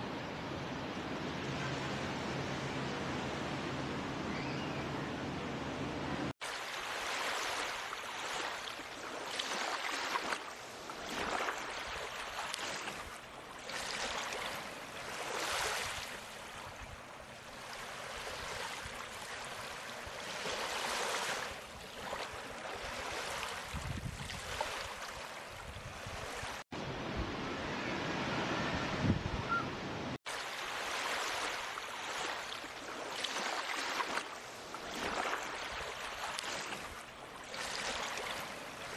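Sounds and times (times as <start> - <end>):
sea waves washing in: 5.6 - 38.9.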